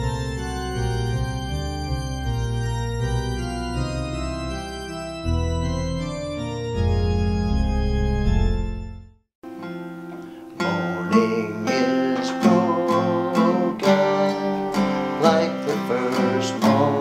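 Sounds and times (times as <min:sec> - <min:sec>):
slow organ chords: 0:00.0 - 0:17.0.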